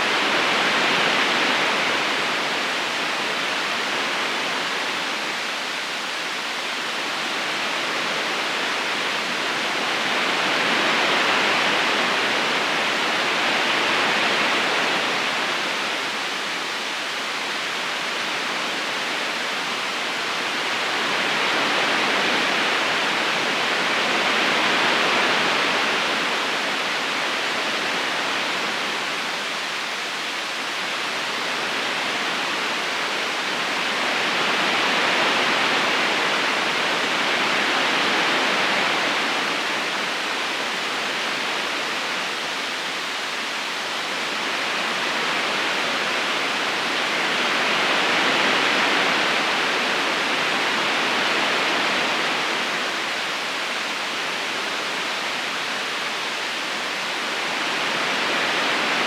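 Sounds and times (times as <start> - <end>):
river current rushing: 0.0 - 59.0.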